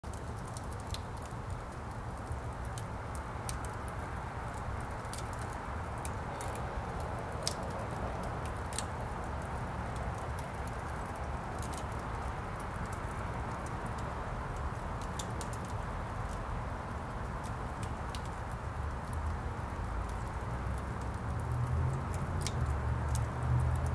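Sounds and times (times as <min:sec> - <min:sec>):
fire crackling and popping: 0:00.0 - 0:23.9.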